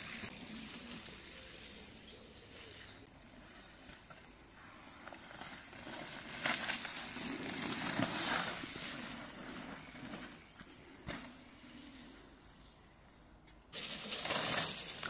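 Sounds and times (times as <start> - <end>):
bike tyres rolling over dirt: 0.0 - 12.3, 13.7 - 15.0.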